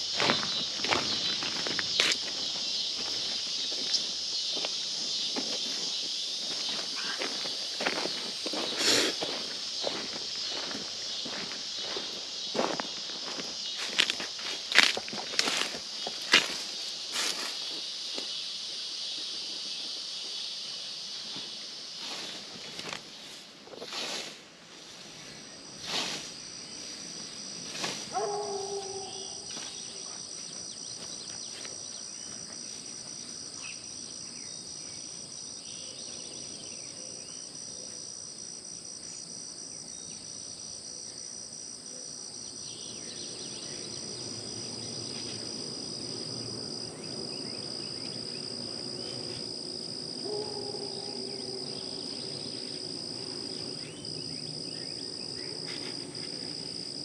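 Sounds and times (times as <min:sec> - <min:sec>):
crickets and insects chirping: 0:00.0 - 0:57.0.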